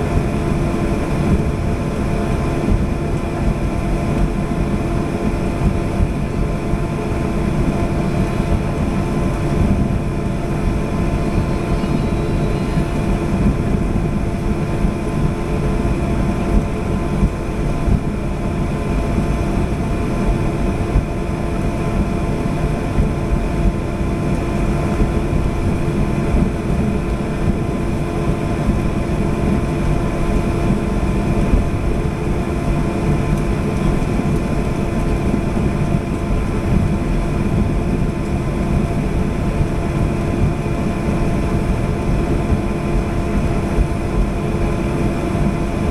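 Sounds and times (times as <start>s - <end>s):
airliner cabin engine drone: 0.0s - 45.9s.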